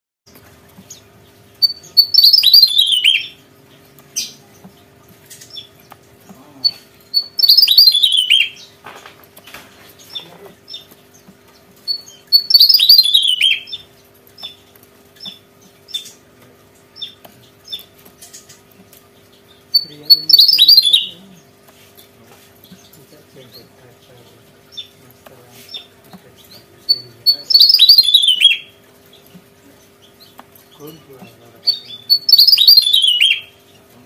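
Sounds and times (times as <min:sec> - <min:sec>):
high bird call notes: 0:00.9 - 0:08.8, 0:09.5 - 0:16.3, 0:17.0 - 0:21.6, 0:22.7 - 0:33.9.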